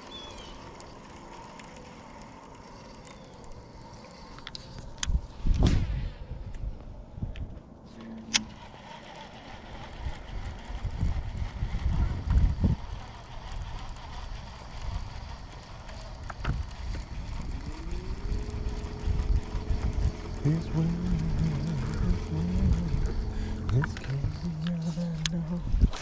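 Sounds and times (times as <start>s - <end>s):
electric trolling motor whine: 0.0s - 5.4s, 6.3s - 26.0s
low uneven rumble: 0.0s - 26.0s.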